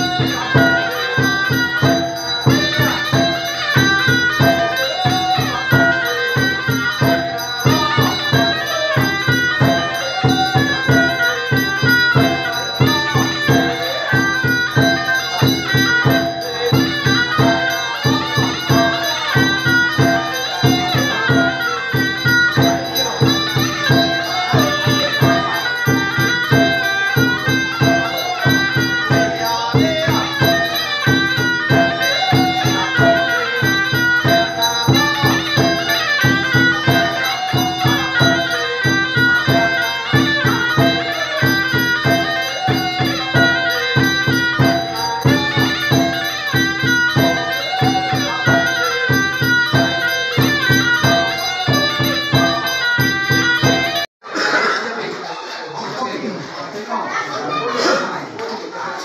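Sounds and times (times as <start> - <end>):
bamboo flute melody: 0.0 - 54.1
fast percussion beat: 0.0 - 54.2.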